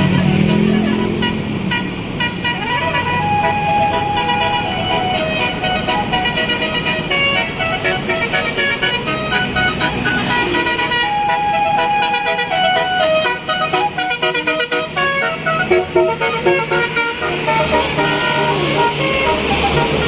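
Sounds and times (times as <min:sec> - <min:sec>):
bus engine running: 0:00.0 - 0:20.0
bus horn playing a melody: 0:00.0 - 0:20.0.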